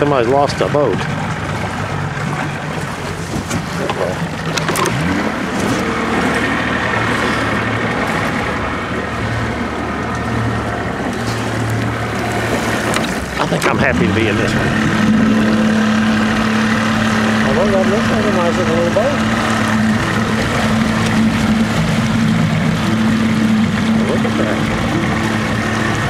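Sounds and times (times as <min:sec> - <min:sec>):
boat motor running: 0:00.0 - 0:26.0
water washing along hull: 0:00.0 - 0:26.0.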